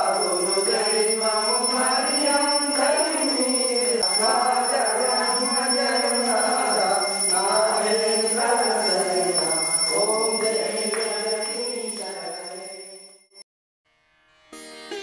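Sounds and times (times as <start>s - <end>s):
voices chanting together: 0.0s - 12.8s
bell ringing: 0.0s - 13.4s.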